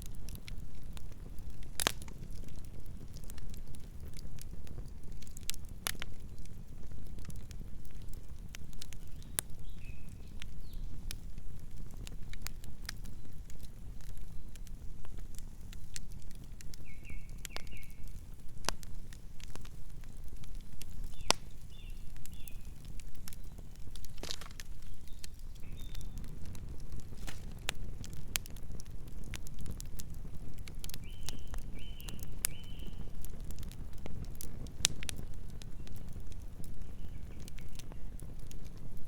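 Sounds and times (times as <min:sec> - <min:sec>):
campfire crackling and popping: 0:00.0 - 0:39.0
low rumble of flames: 0:00.0 - 0:39.0.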